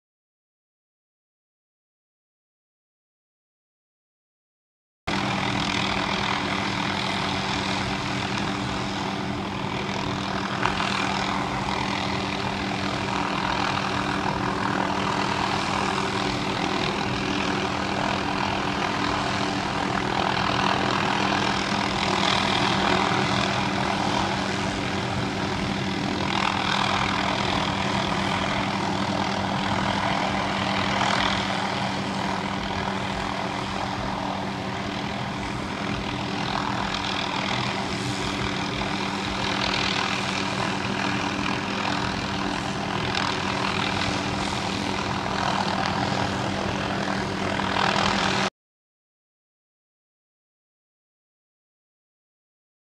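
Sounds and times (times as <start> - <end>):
helicopter hovering: 5.1 - 48.5.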